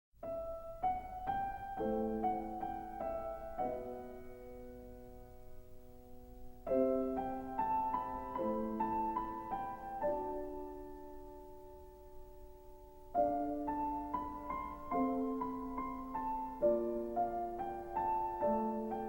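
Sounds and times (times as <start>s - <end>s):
solo piano music: 0.2s - 19.0s.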